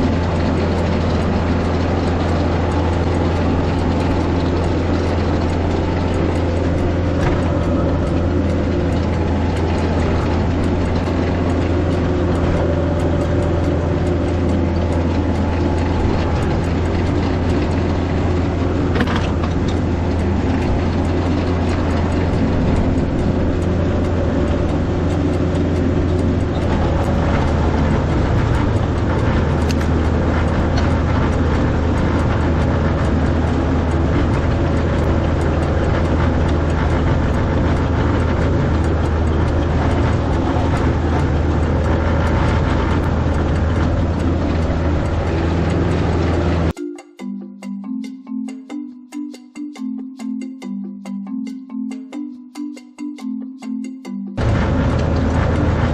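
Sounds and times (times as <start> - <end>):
tractor engine running: 0.0 - 46.8, 54.4 - 55.9.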